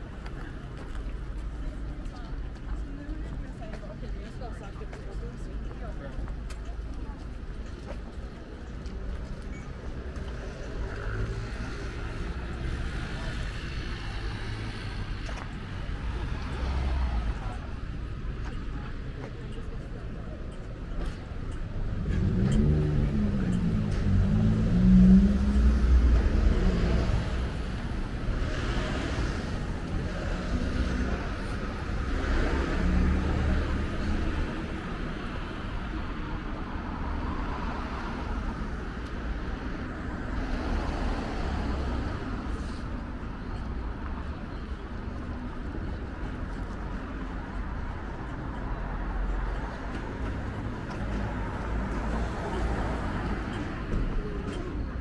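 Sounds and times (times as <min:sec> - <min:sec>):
cars passing: 0:00.0 - 0:55.0
low traffic rumble: 0:00.0 - 0:55.0.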